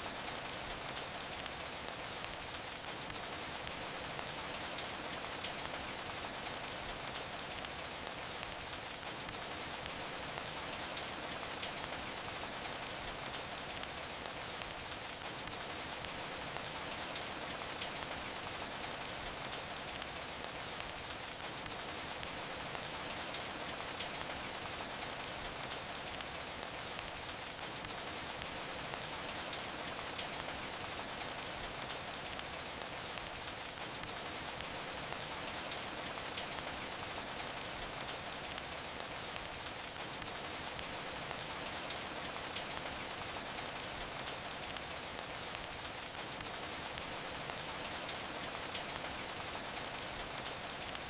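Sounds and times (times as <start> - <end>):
steady rain hiss: 0.0 - 51.0
wood fire crackling and popping: 0.0 - 51.0.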